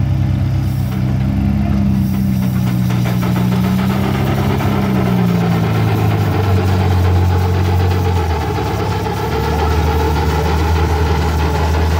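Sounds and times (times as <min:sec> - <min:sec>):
low engine drone: 0:00.0 - 0:11.9
steam engine exhaust beating: 0:00.0 - 0:11.9.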